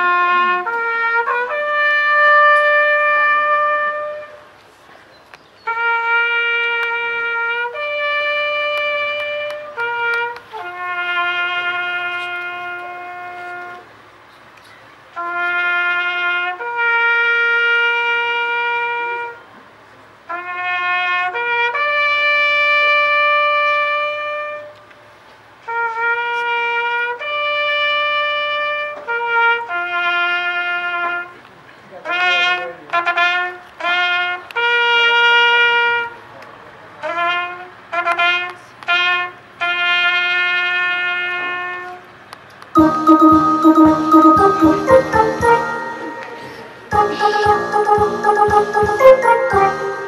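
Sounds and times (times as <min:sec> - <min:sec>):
solo trumpet playing: 0:00.0 - 0:04.4, 0:05.6 - 0:13.9, 0:15.2 - 0:19.4, 0:20.3 - 0:24.8, 0:25.7 - 0:31.4, 0:32.1 - 0:36.2, 0:37.0 - 0:42.0, 0:42.8 - 0:50.0.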